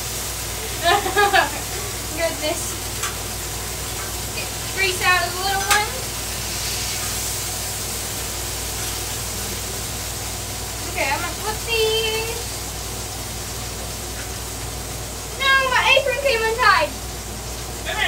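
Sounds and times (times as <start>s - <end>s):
burger patties sizzling on griddle: 0.0s - 18.0s.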